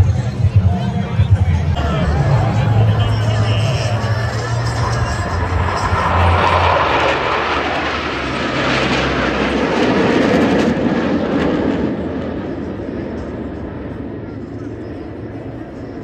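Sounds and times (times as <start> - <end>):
jets flying over roaring: 0.0 - 16.0.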